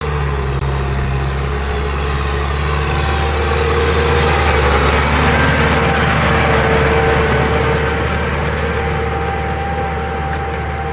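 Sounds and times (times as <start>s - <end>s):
tractor diesel engine under load: 0.0s - 10.9s.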